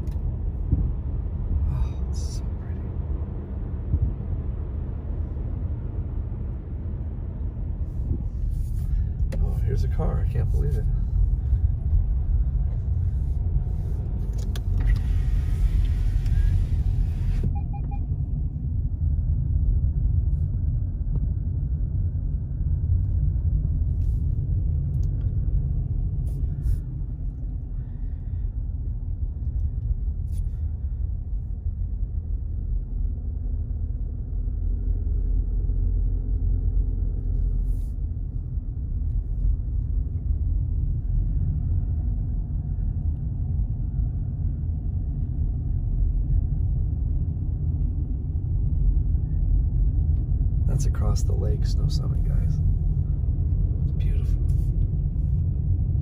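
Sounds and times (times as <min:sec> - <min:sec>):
car tyres and engine rumble: 0:00.0 - 0:56.0.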